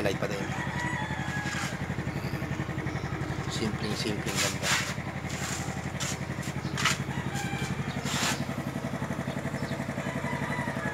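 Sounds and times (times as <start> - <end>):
scooter engine idling: 0.0 - 10.9.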